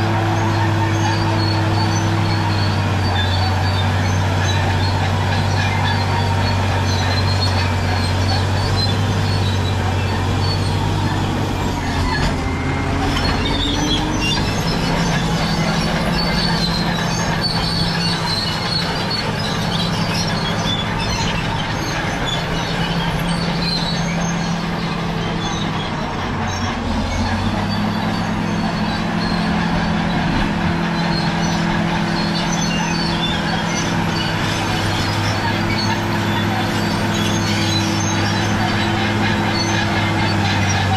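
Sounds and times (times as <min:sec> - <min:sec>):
bulldozer diesel engine: 0:00.0 - 0:40.9
steel tracks clanking and squealing: 0:00.0 - 0:40.9.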